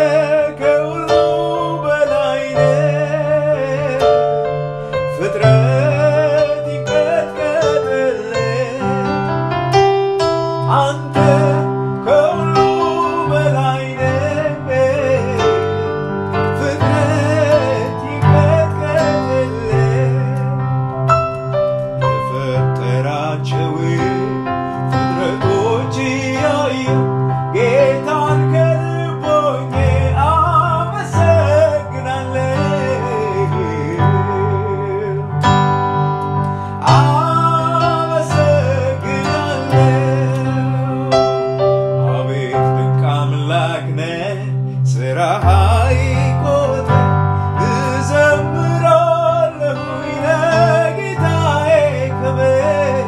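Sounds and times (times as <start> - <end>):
man singing worship song: 0.0 - 9.5, 10.6 - 20.9, 21.8 - 35.4, 36.6 - 53.0
instrumental backing with bass: 0.0 - 53.0.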